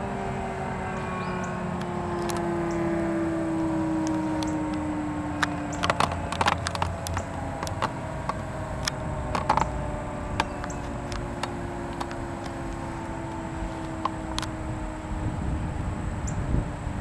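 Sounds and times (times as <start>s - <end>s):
distant tornado sirens: 0.0s - 17.0s
sharp clicks: 1.0s - 14.6s.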